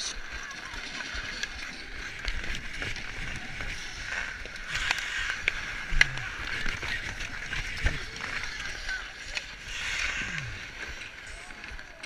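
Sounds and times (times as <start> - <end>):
skates scraping on ice: 0.2 - 12.0
hockey sticks and puck clacking: 0.3 - 10.1.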